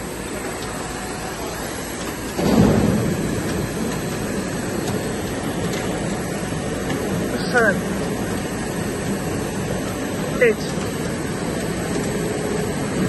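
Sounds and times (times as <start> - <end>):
extrusion machine running: 0.0 - 13.0.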